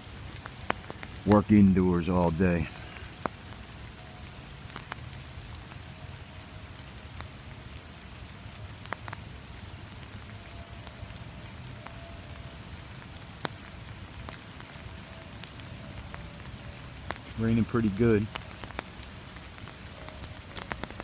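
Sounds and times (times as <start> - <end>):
rain on an umbrella: 0.0 - 21.0.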